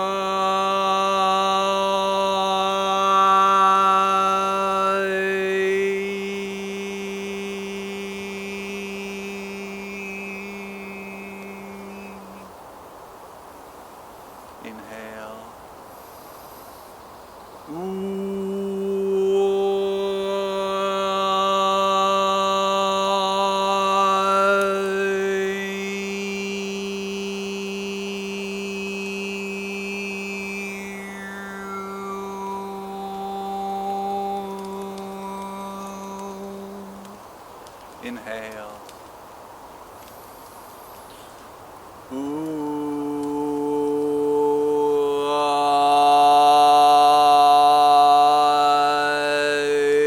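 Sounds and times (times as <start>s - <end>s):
man holding a long vowel: 0.0s - 12.6s, 14.6s - 15.6s, 17.7s - 37.2s, 42.1s - 50.0s.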